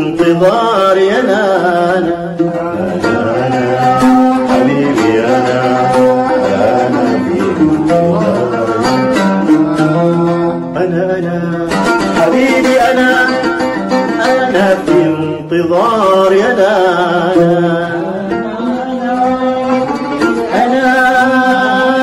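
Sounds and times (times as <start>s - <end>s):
oud melody: 0.0s - 22.0s.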